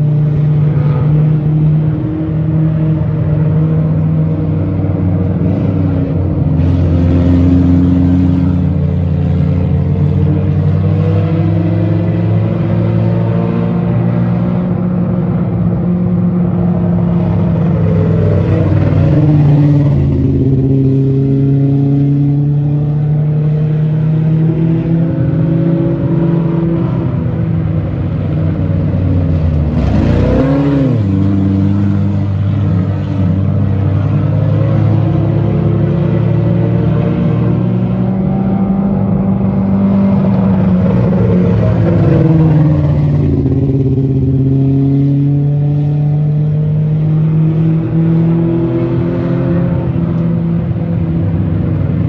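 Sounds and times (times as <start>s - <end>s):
race car engines at high revs: 0.0s - 52.0s.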